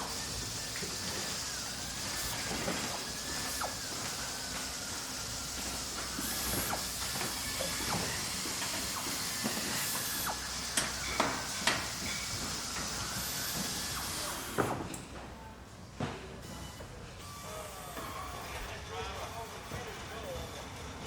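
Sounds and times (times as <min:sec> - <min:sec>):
machine hiss and hum: 0:00.0 - 0:15.2, 0:16.4 - 0:21.0.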